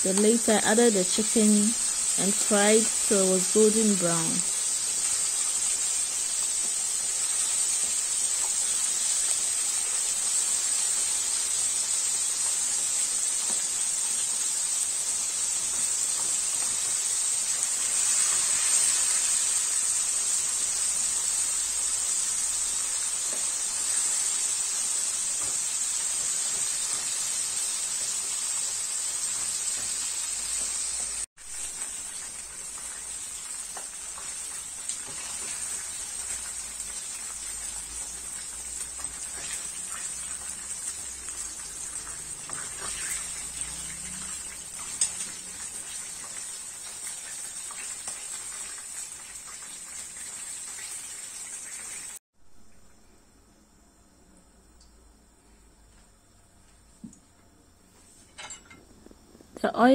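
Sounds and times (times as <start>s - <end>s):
chicken frying in hot oil: 0.0s - 52.9s.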